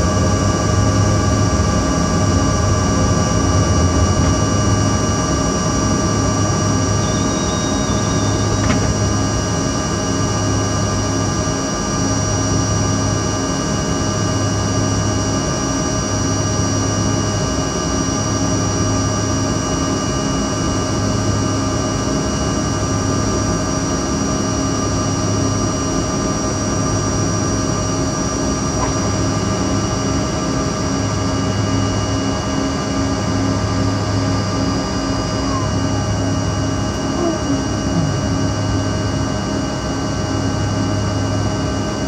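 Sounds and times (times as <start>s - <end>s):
jet engines roaring in cabin: 0.0s - 42.0s.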